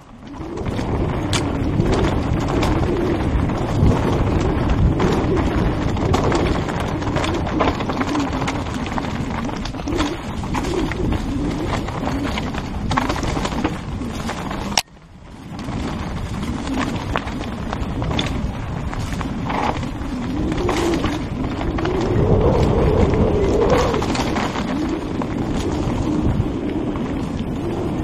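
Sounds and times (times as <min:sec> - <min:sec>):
bike rattling over bumps: 0:00.0 - 0:28.0
wind rushing over microphone: 0:00.0 - 0:28.0.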